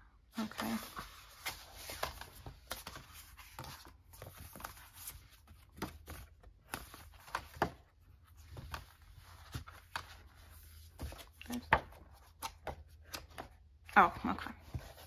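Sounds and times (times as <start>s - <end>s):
paper rustling: 0.4s - 13.5s.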